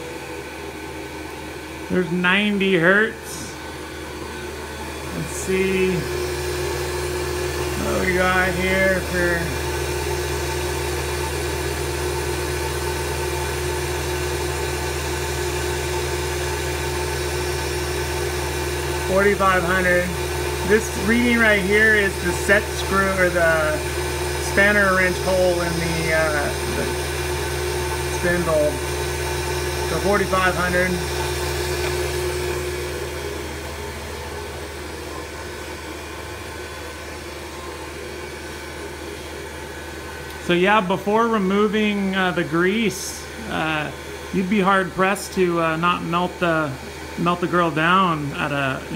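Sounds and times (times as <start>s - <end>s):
mill spindle humming and whining: 0.0s - 48.9s.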